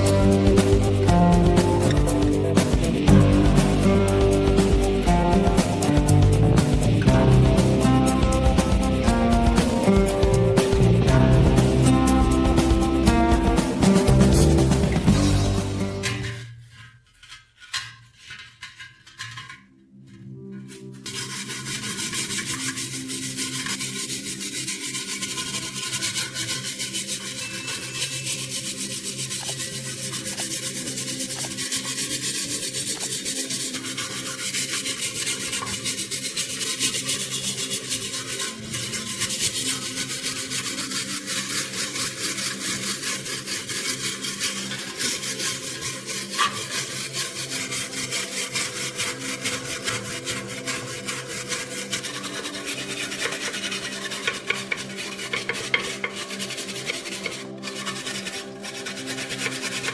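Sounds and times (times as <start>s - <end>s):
abrasive rasping on metal: 0.0s - 19.5s, 20.6s - 59.9s.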